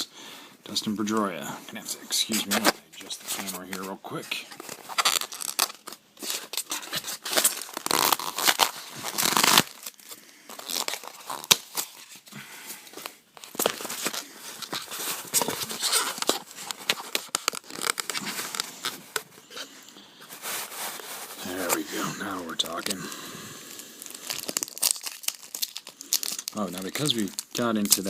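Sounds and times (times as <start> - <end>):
foil wrapper crinkling and tearing: 2.3 - 28.0.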